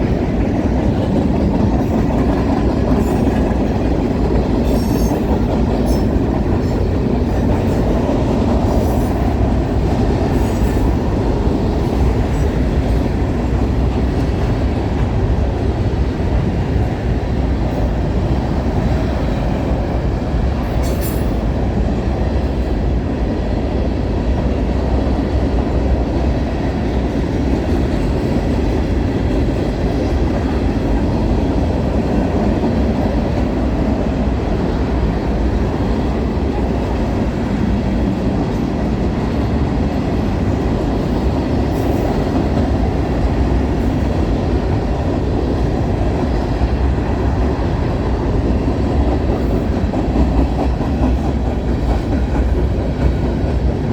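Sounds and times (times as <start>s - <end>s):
freight train wheels rumbling on track: 0.0s - 53.9s.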